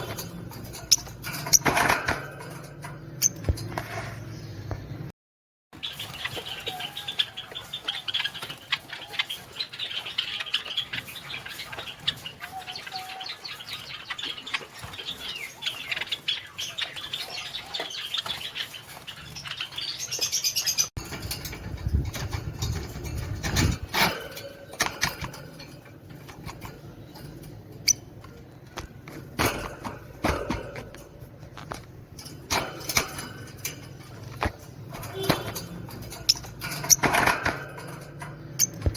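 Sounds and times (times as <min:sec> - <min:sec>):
caged birds chirping: 0:00.0 - 0:05.1, 0:05.7 - 0:38.9
wings fluttering: 0:05.8 - 0:38.9.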